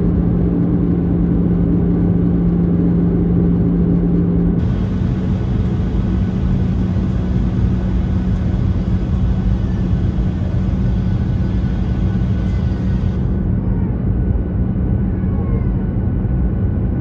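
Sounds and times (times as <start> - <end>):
aircraft engine rumble: 0.0 - 17.0
constant cabin hum: 0.0 - 17.0.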